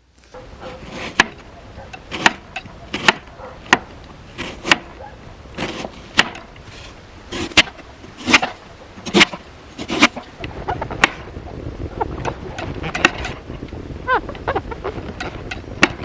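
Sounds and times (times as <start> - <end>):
firewood being split: 0.1 - 11.4, 12.2 - 13.8, 15.0 - 16.0.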